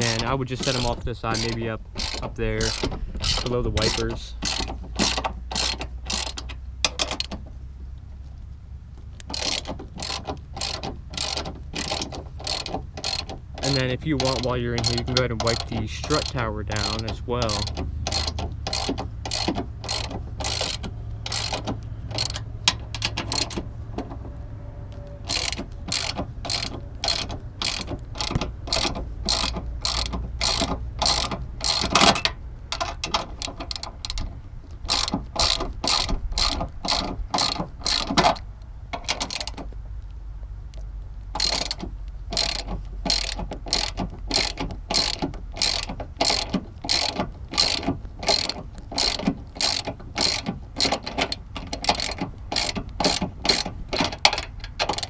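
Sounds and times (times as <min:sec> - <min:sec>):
socket ratchet clicking: 0:00.0 - 0:07.4, 0:09.2 - 0:23.7, 0:25.3 - 0:39.7, 0:41.4 - 0:55.0.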